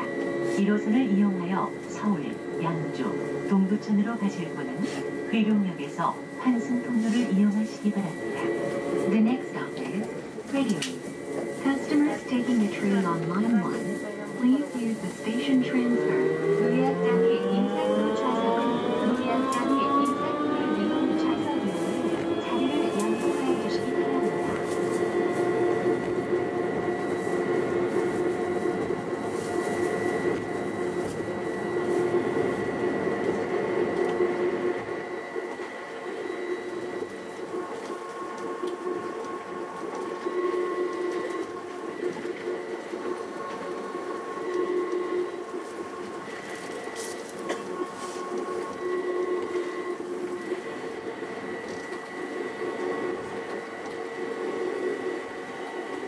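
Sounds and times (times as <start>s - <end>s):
train running hum: 0.0s - 56.0s
whining tones: 0.0s - 56.0s.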